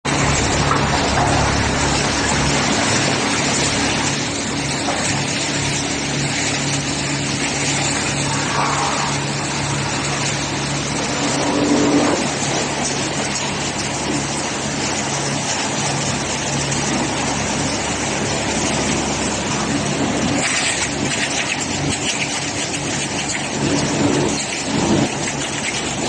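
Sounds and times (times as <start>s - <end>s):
motor hum: 0.1s - 26.0s.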